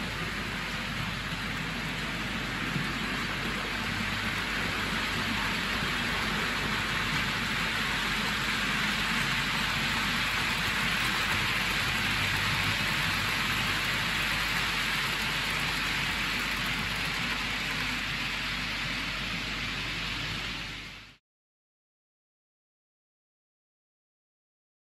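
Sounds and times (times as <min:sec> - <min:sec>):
model train wheels rattling on rails: 0:00.0 - 0:20.4.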